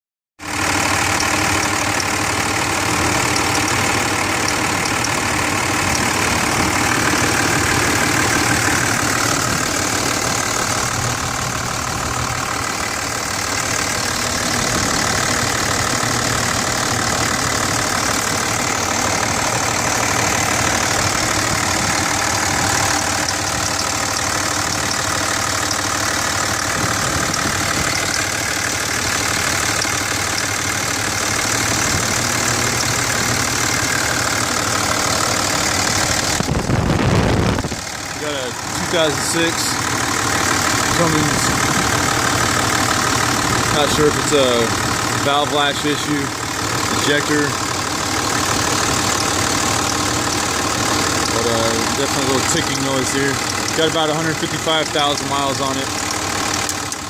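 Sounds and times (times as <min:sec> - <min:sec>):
light engine ticking: 0:00.4 - 0:36.5, 0:37.7 - 0:57.0
diesel engine idling: 0:00.4 - 0:57.0.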